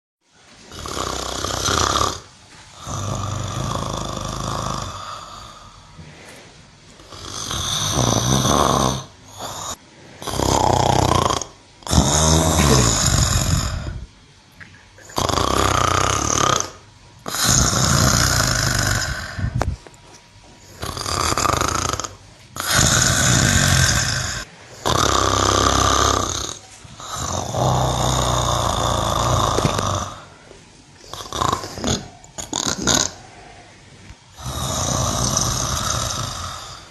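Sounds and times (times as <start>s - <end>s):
fluttering rattle in snore: 0.7s - 5.6s, 7.0s - 14.1s, 15.0s - 19.8s, 20.7s - 30.3s, 31.0s - 33.3s, 34.3s - 36.9s
loud snoring: 0.7s - 6.1s, 7.0s - 14.1s, 15.0s - 19.8s, 20.6s - 36.9s.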